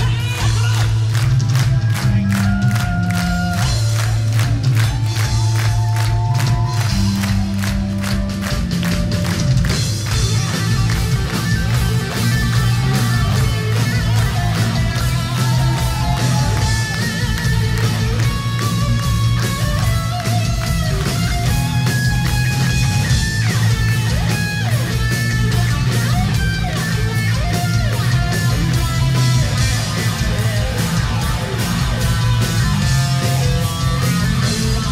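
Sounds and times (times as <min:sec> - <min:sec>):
bass guitar: 0:00.0 - 0:34.9
distorted electric guitar: 0:00.0 - 0:34.9
rapid steady drums: 0:00.0 - 0:34.9.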